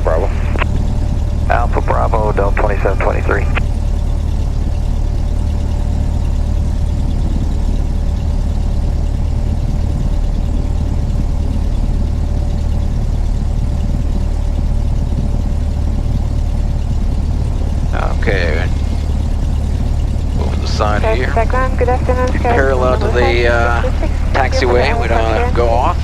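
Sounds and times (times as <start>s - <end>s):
airplane engine droning: 0.0s - 26.0s
faint steady hum: 0.0s - 26.0s.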